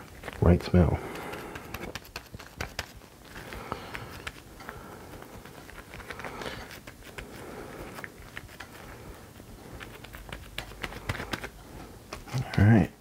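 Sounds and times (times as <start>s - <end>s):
hands handling meat: 0.0s - 12.8s.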